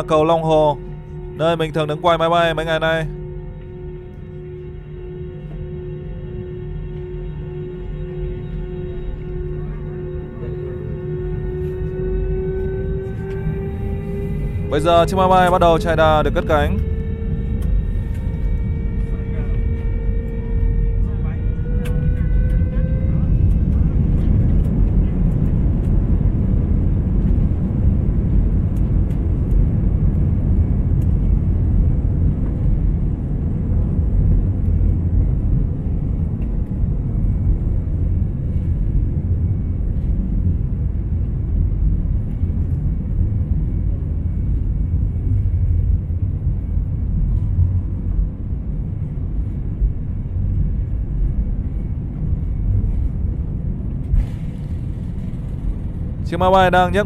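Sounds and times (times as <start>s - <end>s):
jet engines and wheels rumbling: 0.0s - 57.0s.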